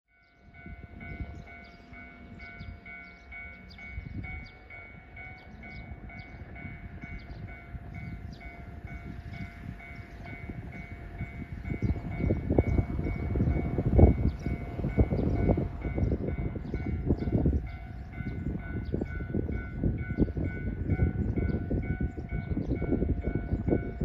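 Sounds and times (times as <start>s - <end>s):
level-crossing warning bell: 0.1s - 24.0s.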